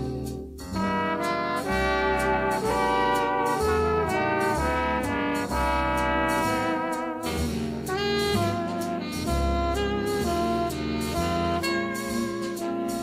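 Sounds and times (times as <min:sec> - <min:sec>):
jazz with horn section: 0:00.0 - 0:13.0.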